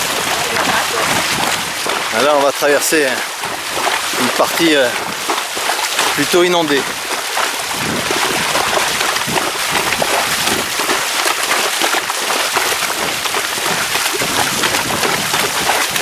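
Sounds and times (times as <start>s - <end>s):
hooves splashing in water: 0.0s - 16.0s.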